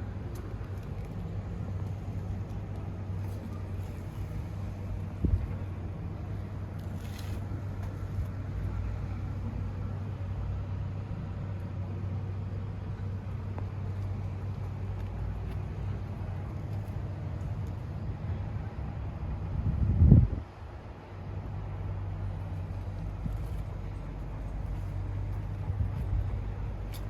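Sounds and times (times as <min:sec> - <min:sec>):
excavator diesel engine humming: 0:00.0 - 0:20.0, 0:20.6 - 0:27.0.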